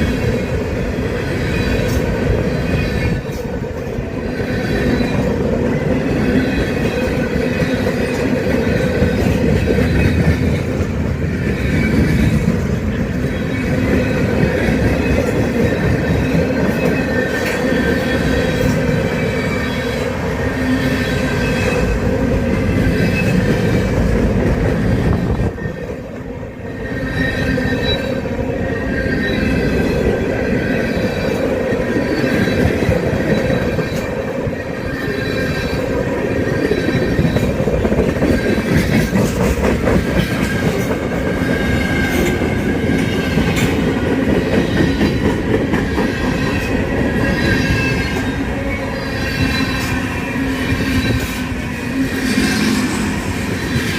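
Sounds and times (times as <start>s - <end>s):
train cars rumbling past: 0.0s - 53.9s
train wheel squeal: 0.0s - 53.9s.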